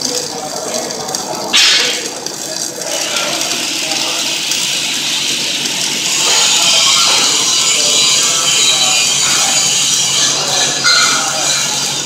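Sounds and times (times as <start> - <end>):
welding arc crackling and hissing: 0.0 - 12.0.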